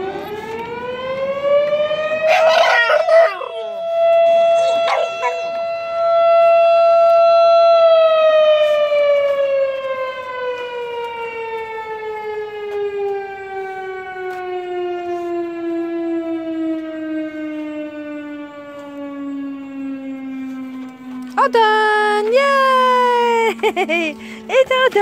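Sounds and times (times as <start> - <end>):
warning siren winding down: 0.0 - 25.0.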